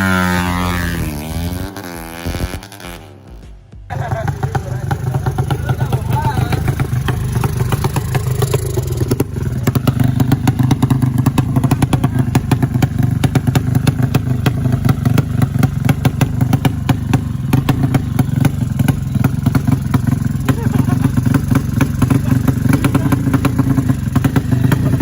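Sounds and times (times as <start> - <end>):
motorcycle engine running: 0.0 - 25.0
rapid irregular clicks and rattles: 3.9 - 25.0.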